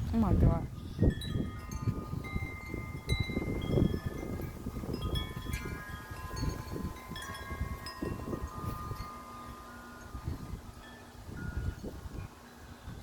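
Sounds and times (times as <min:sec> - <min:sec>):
wind buffeting microphone: 0:00.0 - 0:13.0
metal wind chimes ringing: 0:00.5 - 0:13.0.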